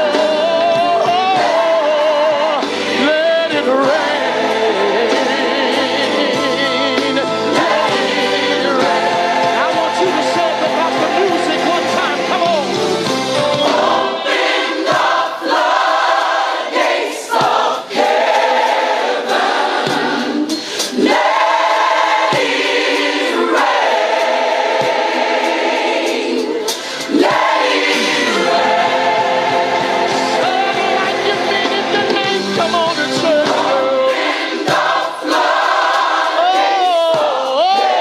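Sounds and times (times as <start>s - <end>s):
choir singing gospel music: 0.0s - 38.0s.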